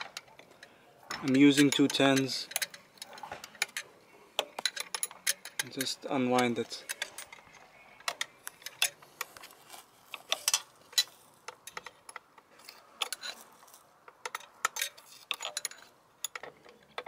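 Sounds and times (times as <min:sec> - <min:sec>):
wrenches clinking on metal: 0:00.0 - 0:17.0.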